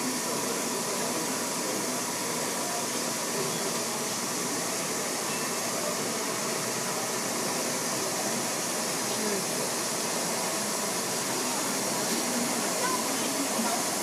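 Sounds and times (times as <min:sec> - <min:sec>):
crowd noise rush: 0:00.0 - 0:14.0
indistinct voices in a hall: 0:00.0 - 0:14.0.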